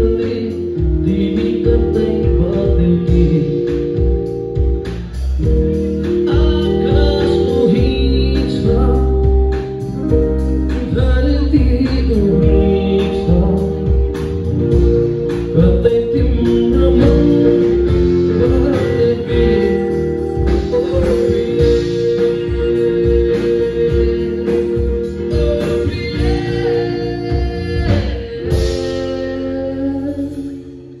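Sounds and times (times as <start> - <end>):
electric guitars: 0.0 - 31.0
drum beat: 0.8 - 29.2.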